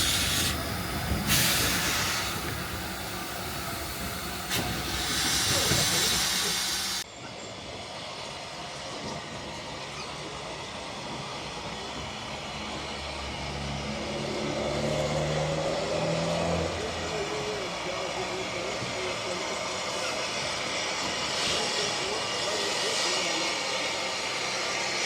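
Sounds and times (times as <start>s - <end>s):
steam locomotive hissing: 0.0s - 13.5s, 16.8s - 25.0s
railway background noise: 0.0s - 25.0s.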